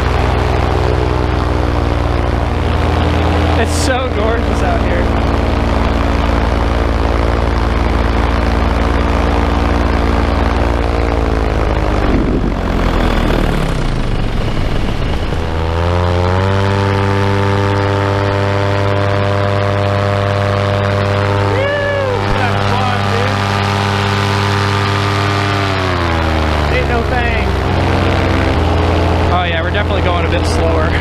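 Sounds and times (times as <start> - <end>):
paramotor engine and propeller: 0.0 - 31.0.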